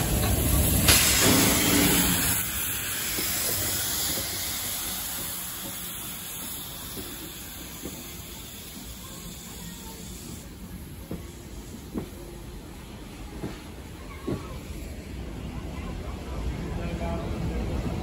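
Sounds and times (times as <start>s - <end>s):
steam locomotive hissing steam: 0.0s - 15.2s.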